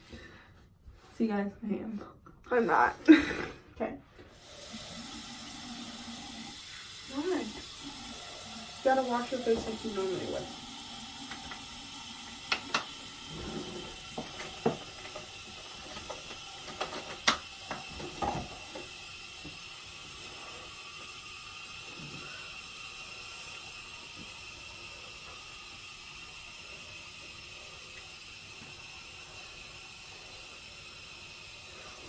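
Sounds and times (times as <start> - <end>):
steady hiss: 4.3 - 32.0.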